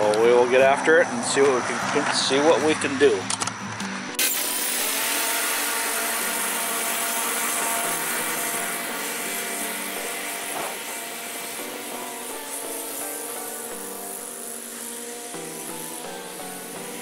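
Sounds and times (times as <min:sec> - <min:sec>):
lawn mower running: 0:01.2 - 0:17.0.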